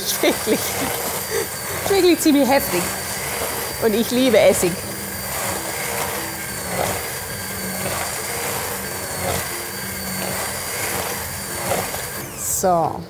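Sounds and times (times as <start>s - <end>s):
immersion blender motor humming: 0.0s - 13.0s.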